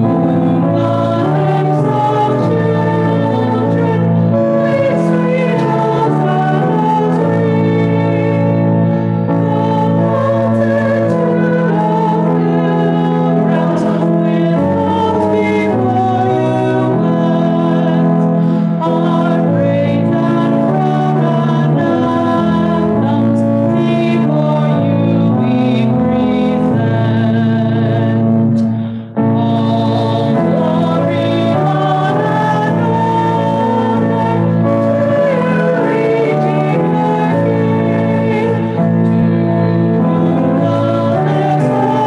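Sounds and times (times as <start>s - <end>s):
held accompanying chords: 0.0s - 42.0s
voices singing a hymn: 0.0s - 42.0s.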